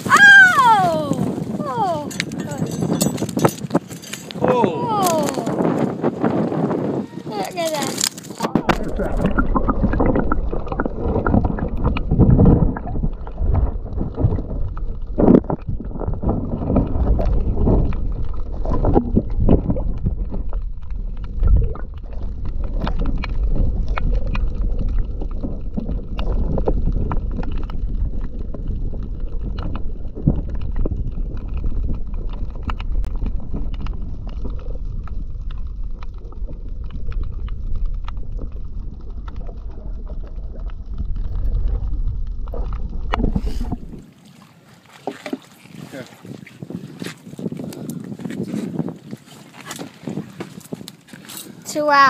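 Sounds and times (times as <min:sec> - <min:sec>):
muffled underwater rumble and gurgle: 0:00.0 - 0:52.0.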